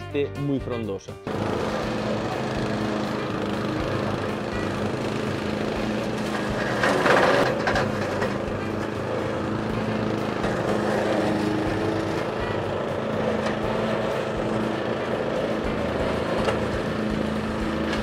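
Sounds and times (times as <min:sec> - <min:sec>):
brush cutter engine running: 0:01.2 - 0:18.0
cutting head rush: 0:01.3 - 0:18.0.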